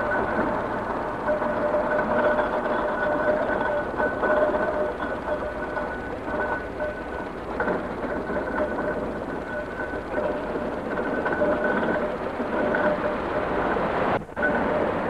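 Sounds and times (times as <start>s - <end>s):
steam traction engine running: 0.0s - 15.0s.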